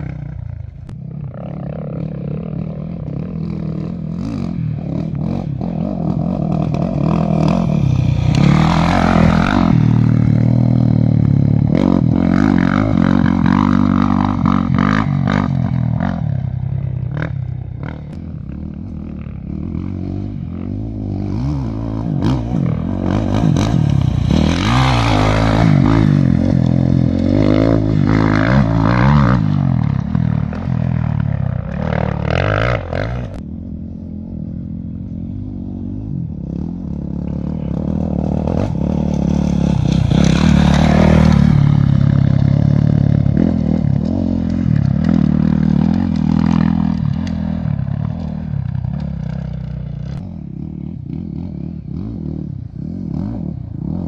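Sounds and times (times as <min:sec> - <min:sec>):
vehicle engine running: 0:00.0 - 0:52.8.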